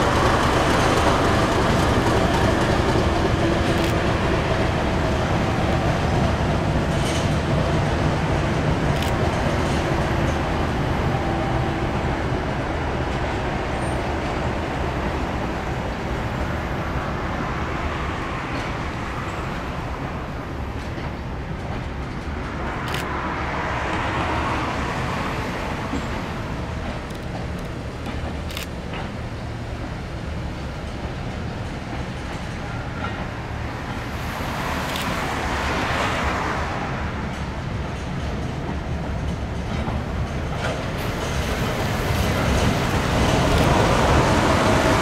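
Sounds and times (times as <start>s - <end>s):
train rushing running noise: 0.0s - 45.0s.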